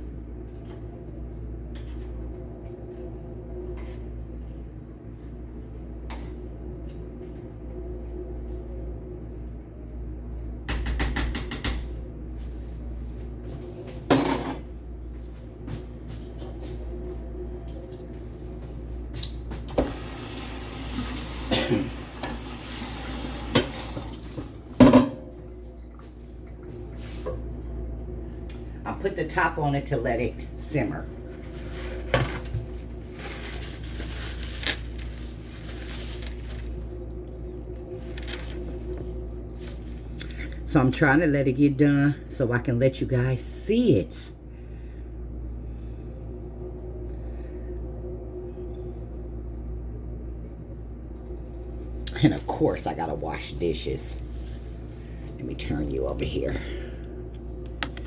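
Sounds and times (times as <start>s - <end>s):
low kitchen hum: 0.0s - 58.0s.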